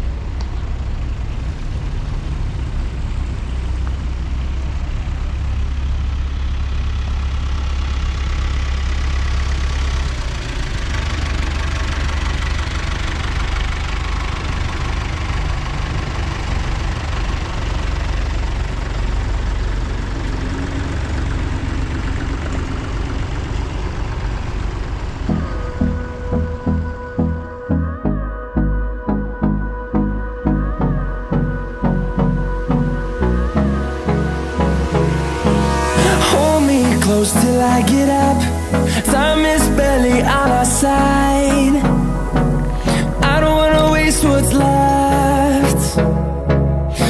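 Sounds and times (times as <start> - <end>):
tractor engines chugging past: 0.0 - 27.6, 31.6 - 47.0.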